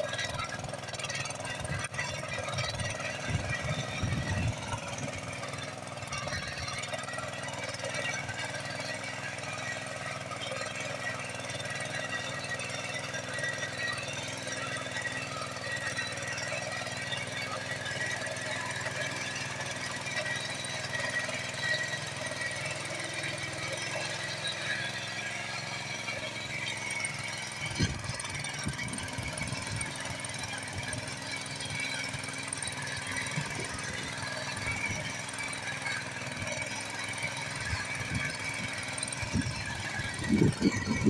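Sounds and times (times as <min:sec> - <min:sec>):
small petrol engine running: 0:00.0 - 0:41.0.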